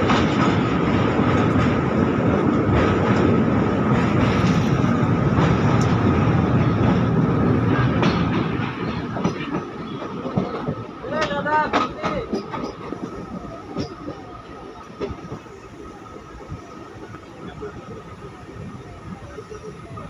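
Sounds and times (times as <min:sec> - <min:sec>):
train wheels rumbling on bridge: 0:00.0 - 0:20.0.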